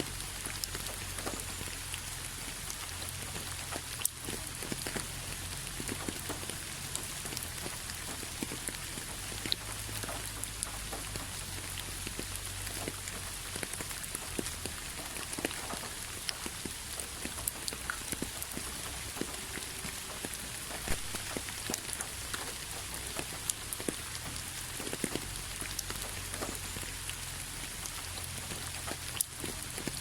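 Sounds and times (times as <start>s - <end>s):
rain on a hard surface: 0.0s - 30.0s
raindrops ticking: 0.0s - 30.0s.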